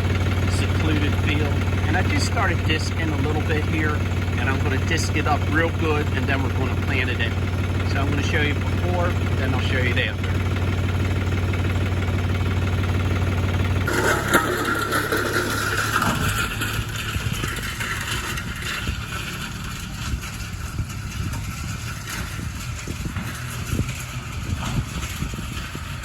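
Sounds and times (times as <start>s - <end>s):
rattles and knocks: 0.0s - 26.0s
tractor diesel engine running: 0.0s - 26.0s.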